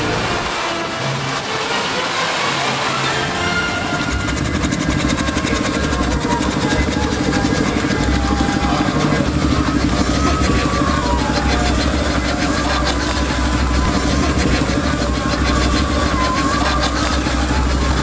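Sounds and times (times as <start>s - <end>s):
steam traction engine running: 0.0s - 18.0s.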